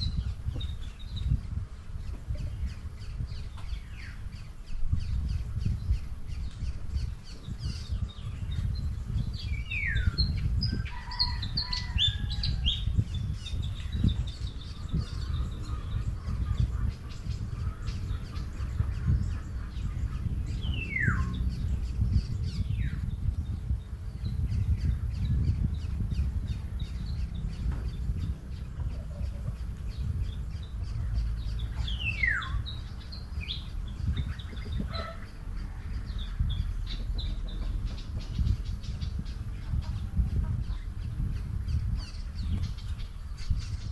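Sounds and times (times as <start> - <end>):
low rumble: 0.0 - 43.9
small birds chirping: 0.0 - 43.9.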